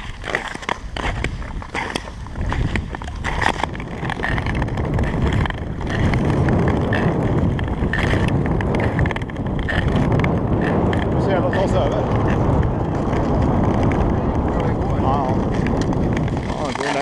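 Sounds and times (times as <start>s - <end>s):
pole tips clicking on ice: 0.0s - 14.1s, 15.4s - 17.0s
ice skates scraping over ice: 0.0s - 17.0s
wind on microphone: 0.0s - 17.0s.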